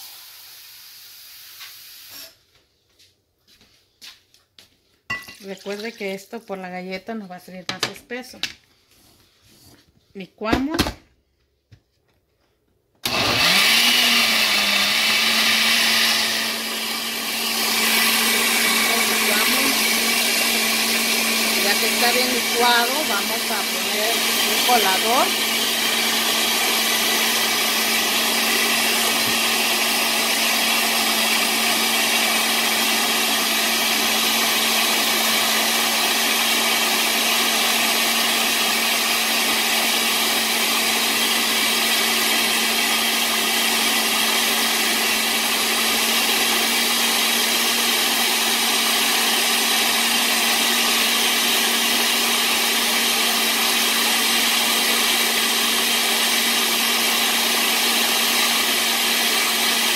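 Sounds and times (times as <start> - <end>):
blender running: 0.0 - 2.3, 13.0 - 59.9.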